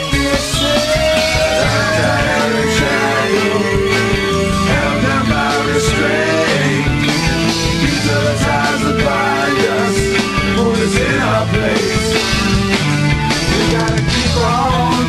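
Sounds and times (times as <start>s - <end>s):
person singing: 0.0s - 7.1s, 7.8s - 12.4s, 13.3s - 15.0s
rock band playing: 0.0s - 15.0s.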